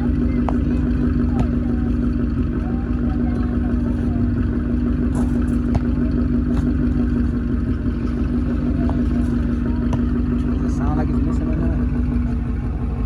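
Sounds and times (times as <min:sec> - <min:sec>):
car engine running steadily: 0:00.0 - 0:13.0
faint engine ticks: 0:00.0 - 0:13.0.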